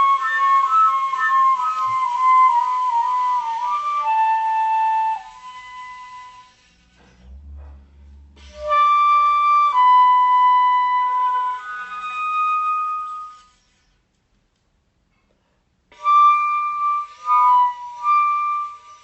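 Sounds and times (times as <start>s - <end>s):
slow woodwind melody: 0.0s - 13.8s, 15.9s - 19.0s.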